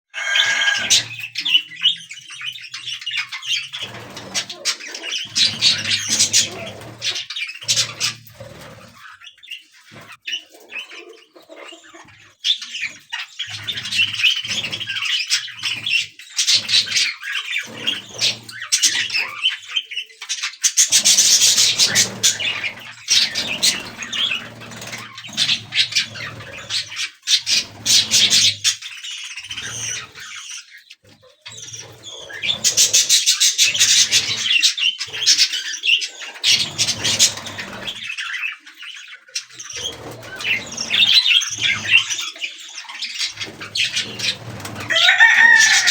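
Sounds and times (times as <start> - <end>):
budgerigars chattering and chirping: 0.2 - 45.9.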